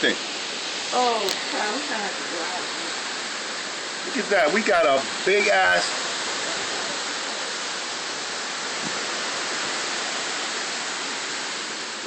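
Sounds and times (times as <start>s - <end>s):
rushing hiss of storm wind: 0.0s - 12.0s.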